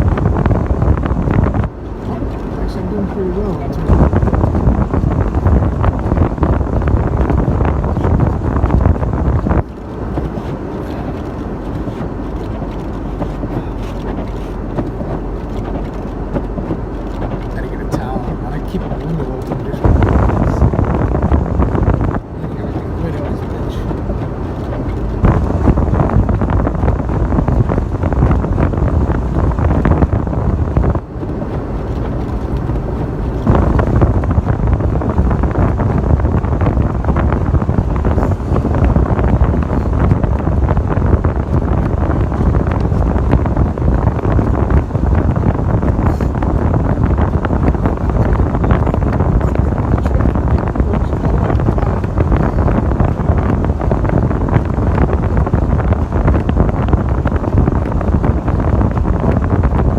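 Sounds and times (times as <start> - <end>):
road noise: 0.0 - 59.9
truck engine: 0.0 - 59.9
wind buffeting microphone: 0.0 - 59.9.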